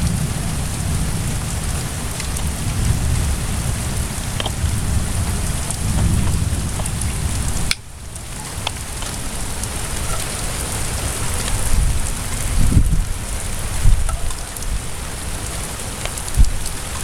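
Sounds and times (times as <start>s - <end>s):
low rumbling thunder: 0.0s - 15.5s
steady rain: 0.0s - 17.0s.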